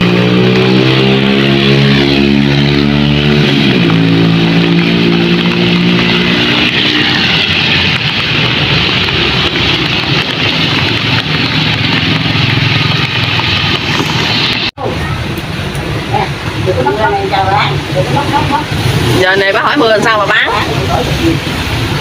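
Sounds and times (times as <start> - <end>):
motorbike engine passing: 0.0 - 14.8, 15.5 - 22.0
tyres hissing on wet street: 0.0 - 22.0.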